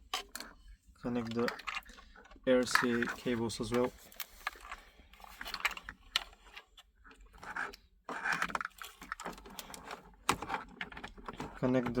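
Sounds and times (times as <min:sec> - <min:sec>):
wiring rustling: 0:00.0 - 0:12.0.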